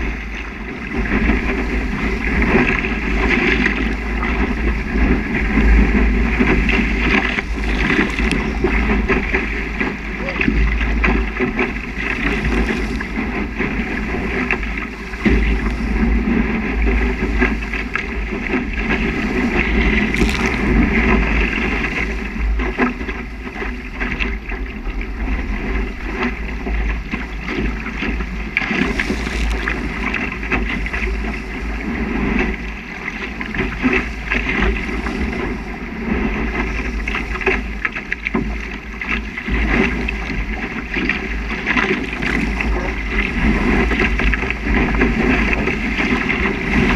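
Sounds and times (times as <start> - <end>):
water rushing along boat hull: 0.0 - 46.9
wind rumble on microphone: 0.0 - 46.9.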